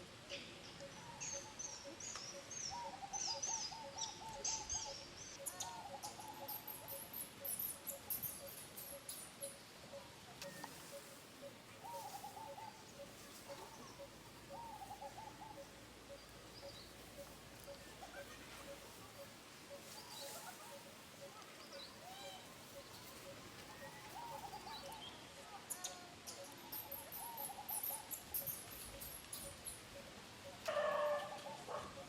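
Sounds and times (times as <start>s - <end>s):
bird chirps and trills: 0.7s - 30.6s.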